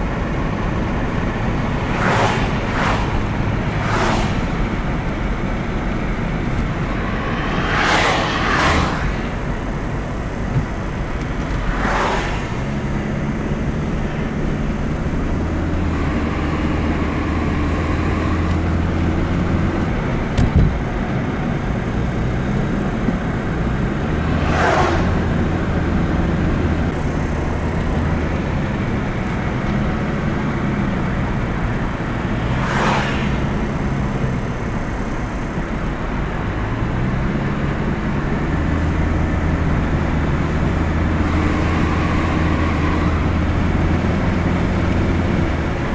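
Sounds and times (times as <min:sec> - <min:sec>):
motor vehicle engine rumble: 0:00.0 - 0:45.9.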